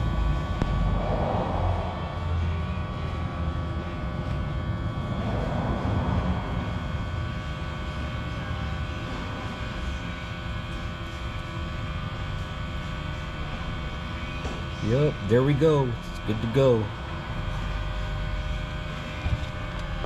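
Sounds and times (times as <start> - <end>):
smoke machine humming: 0.0 - 20.0.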